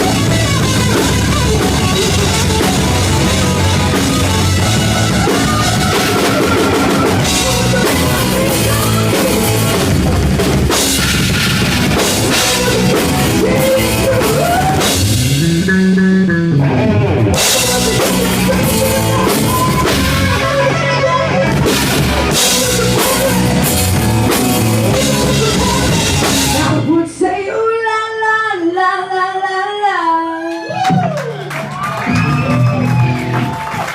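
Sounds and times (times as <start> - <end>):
person singing: 0.0 - 10.8, 12.0 - 30.5
live rock band playing: 0.0 - 27.2, 30.9 - 33.9.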